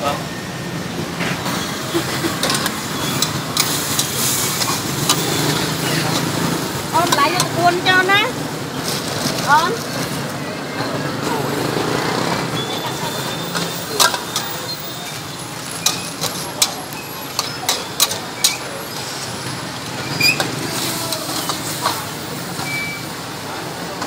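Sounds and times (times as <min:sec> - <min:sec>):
frying hiss: 0:00.9 - 0:24.0.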